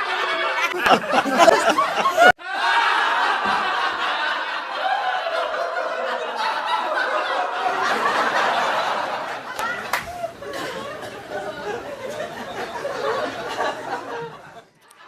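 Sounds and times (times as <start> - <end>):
people laughing: 0.0 - 15.0.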